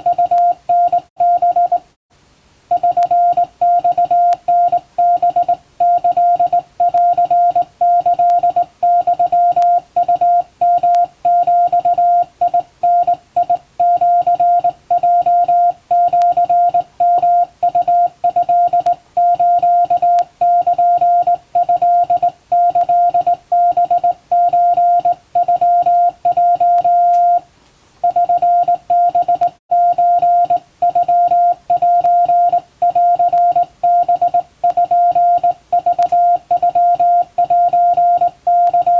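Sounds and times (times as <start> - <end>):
morse code beeps: 0.0 - 1.8, 2.7 - 27.4, 28.0 - 38.9.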